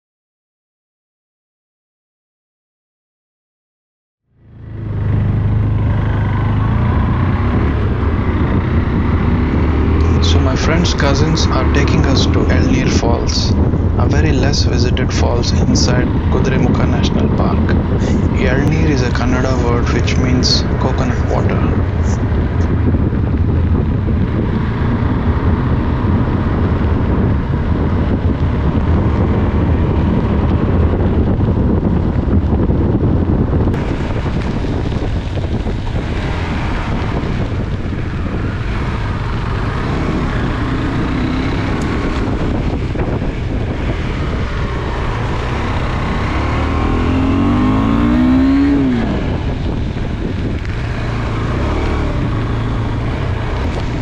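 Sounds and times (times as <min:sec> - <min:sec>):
motorcycle engine running: 0:04.3 - 0:54.0
tyre and wind noise on wet road: 0:04.6 - 0:54.0.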